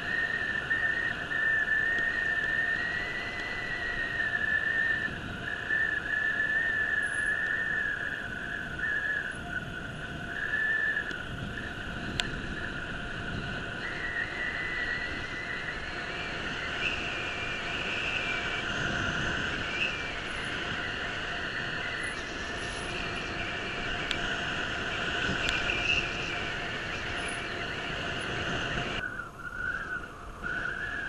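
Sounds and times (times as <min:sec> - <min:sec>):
high brake squeal: 0:00.0 - 0:31.0.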